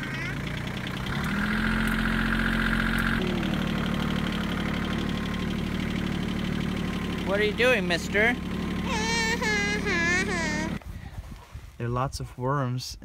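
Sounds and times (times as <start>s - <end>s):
tractor engine running: 0.0s - 10.8s.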